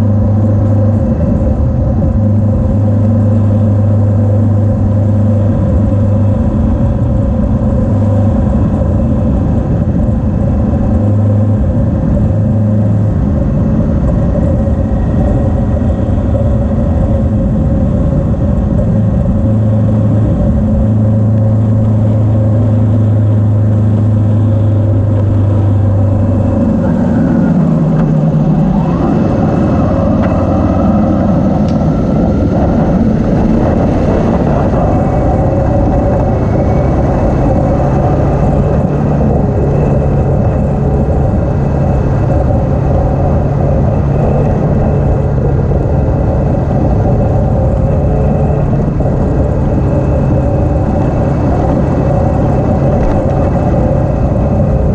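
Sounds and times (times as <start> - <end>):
motorcycle engine running: 0.0 - 54.9
road noise: 0.0 - 54.9
wind rush: 0.0 - 54.9.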